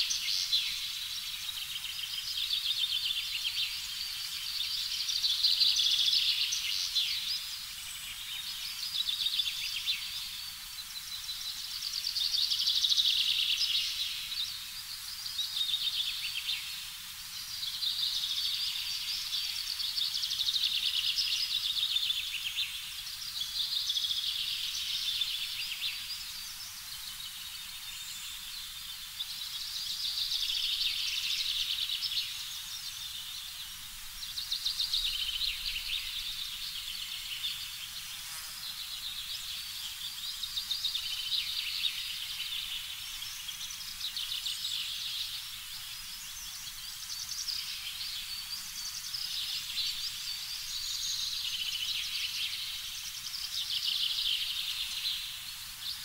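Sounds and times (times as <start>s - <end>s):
faint low hiss: 0.0s - 56.0s.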